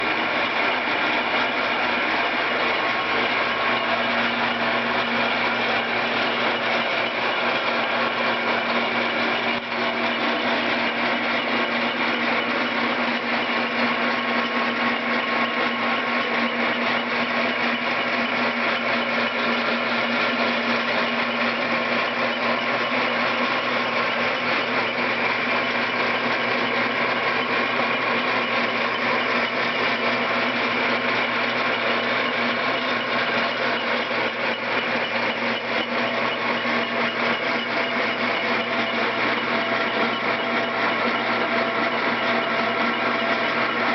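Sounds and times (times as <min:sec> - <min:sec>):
lathe running with high whine: 0:00.0 - 0:43.9.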